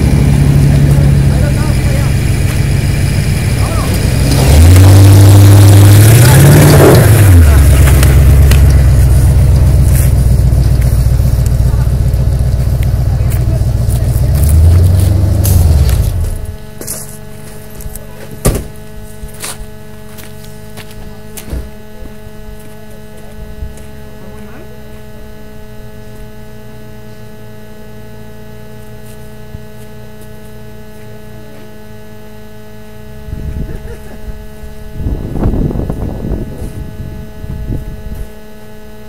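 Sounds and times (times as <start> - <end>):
low rumbling noise: 0.0 - 39.0
steady hum of fixed tones: 0.0 - 39.0.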